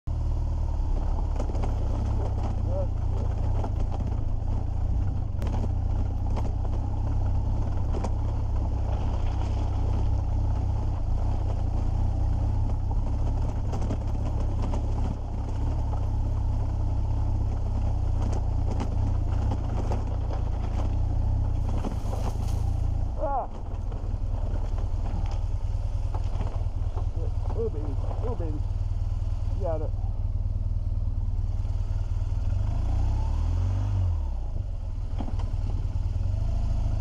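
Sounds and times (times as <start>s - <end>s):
motorcycle engine rumbling: 0.1s - 37.0s
loose stones clicking under tyres: 0.2s - 37.0s.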